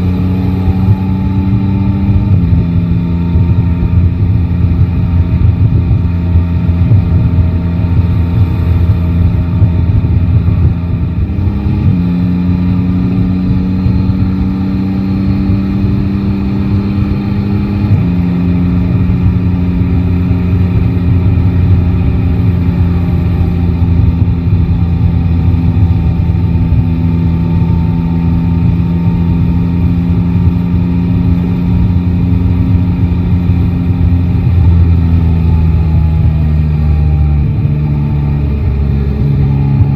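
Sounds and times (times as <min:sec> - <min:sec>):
low rumble: 0:00.0 - 0:39.9
motorcycle engine cruising: 0:00.0 - 0:39.9.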